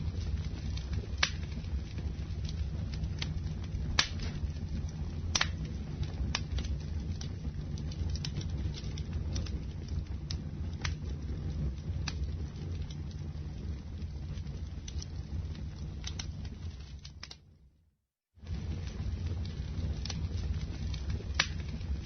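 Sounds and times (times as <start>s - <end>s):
burning wood crackling and popping: 0.0s - 17.5s, 18.3s - 22.0s
campfire flames rumbling: 0.0s - 17.5s, 18.2s - 22.0s.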